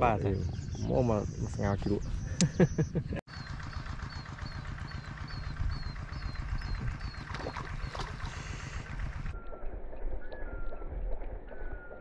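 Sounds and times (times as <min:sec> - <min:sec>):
small engine rumbling: 0:00.0 - 0:12.0.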